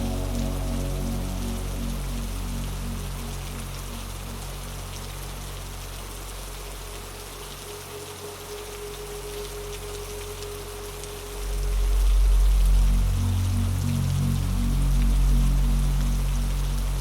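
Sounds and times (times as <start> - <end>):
low droning ambient pad: 0.0 - 17.0
steady rain falling: 0.0 - 17.0.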